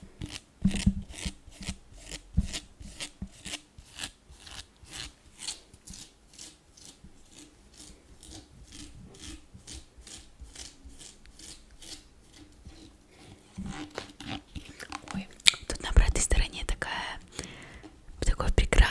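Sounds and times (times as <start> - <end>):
nails scratching a surface: 0.2 - 16.4.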